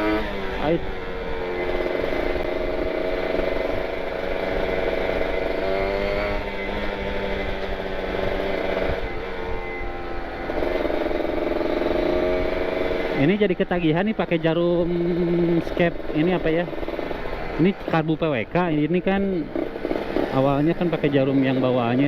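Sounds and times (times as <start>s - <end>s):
motorcycle engine at light throttle: 0.0s - 22.0s.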